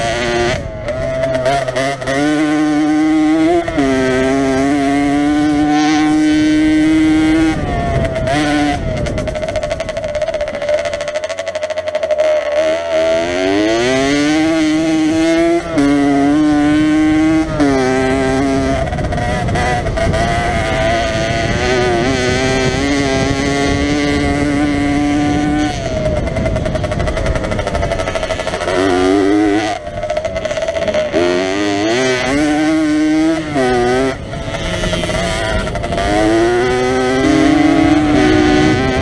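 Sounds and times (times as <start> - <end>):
two-stroke motorcycle engine revving: 0.0 - 39.0.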